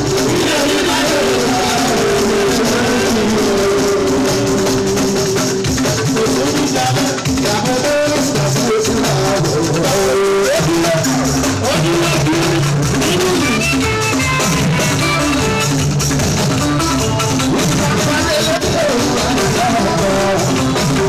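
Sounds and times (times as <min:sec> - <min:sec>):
man singing into a microphone: 0:00.0 - 0:13.7, 0:16.9 - 0:21.0
shakers and drums: 0:00.0 - 0:21.0.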